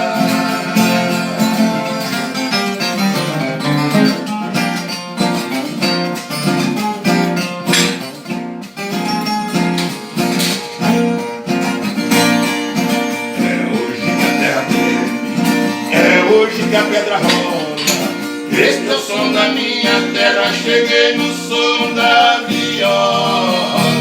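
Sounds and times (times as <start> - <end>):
plucked guitars playing melody: 0.0 - 24.0.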